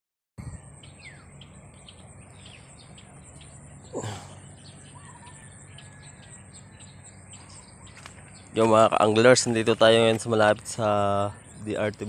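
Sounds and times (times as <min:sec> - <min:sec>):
birds chirping: 0:00.4 - 0:12.0
steady high whine: 0:00.4 - 0:12.0.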